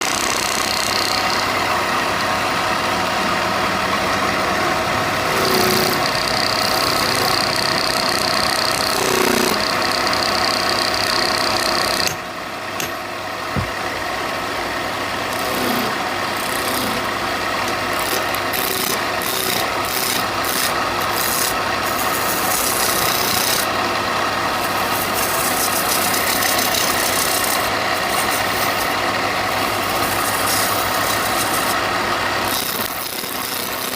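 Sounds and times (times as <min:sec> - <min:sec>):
power tool grinding wood: 0:00.0 - 0:12.2, 0:15.2 - 0:33.9.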